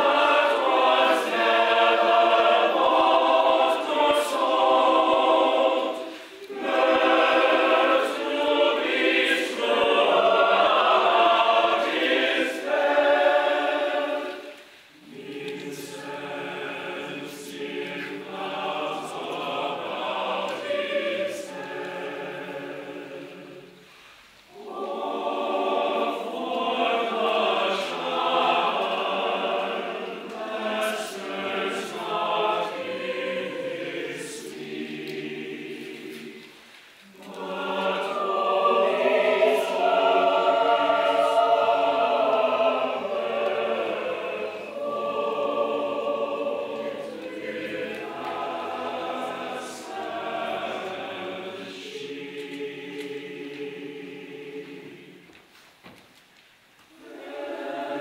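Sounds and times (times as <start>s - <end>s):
church choir singing a carol: 0.0s - 58.0s.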